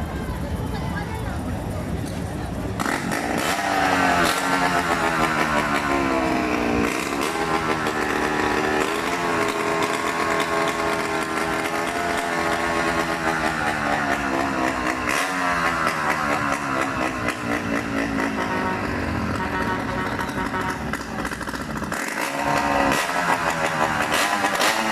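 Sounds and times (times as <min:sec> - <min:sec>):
motorcycle engine running hard: 0:00.0 - 0:24.9.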